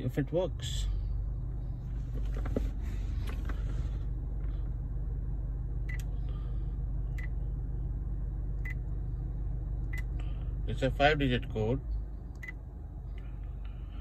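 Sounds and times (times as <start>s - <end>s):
steady low cabin hum: 0.0s - 14.0s.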